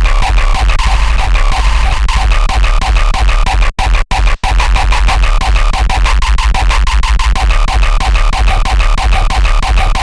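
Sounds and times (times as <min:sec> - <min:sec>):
electronic dance music with heavy bass: 0:00.0 - 0:10.0.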